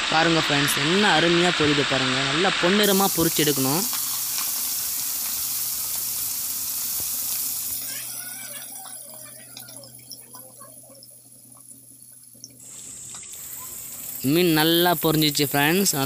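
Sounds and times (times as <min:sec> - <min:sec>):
fish deep-frying in hot oil: 0:00.0 - 0:16.0.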